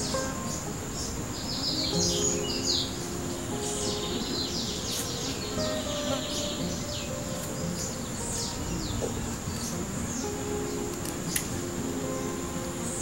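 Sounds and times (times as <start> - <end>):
birds calling falling high notes: 0.0 - 13.0
high-pitched insect drone: 0.0 - 13.0.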